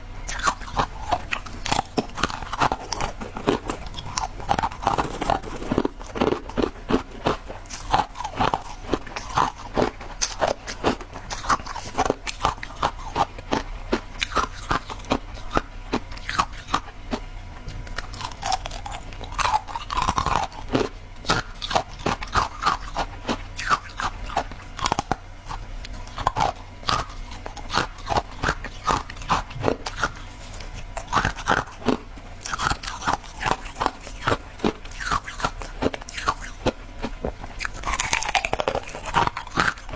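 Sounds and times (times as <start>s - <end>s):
ice crunching being chewed: 0.2s - 39.9s.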